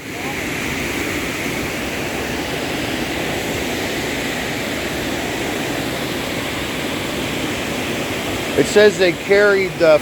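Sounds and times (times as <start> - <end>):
waterfall rushing water: 0.0 - 10.0.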